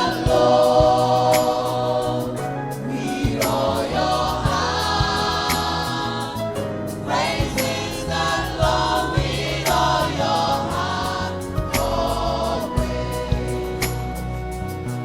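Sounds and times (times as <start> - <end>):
group singing gospel: 0.0 - 14.7
bass and drums beat: 0.0 - 15.0.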